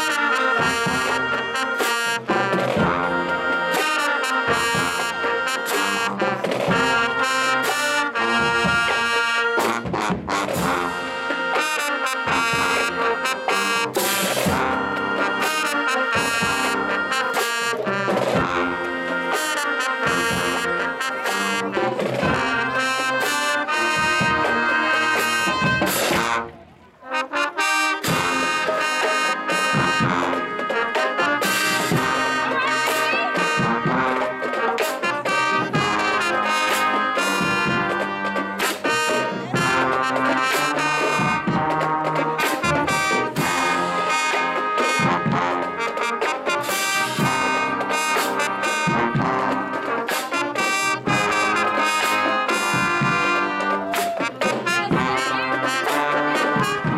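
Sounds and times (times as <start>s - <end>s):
marching band brass playing: 0.0s - 56.9s
percussion hits: 0.0s - 56.9s.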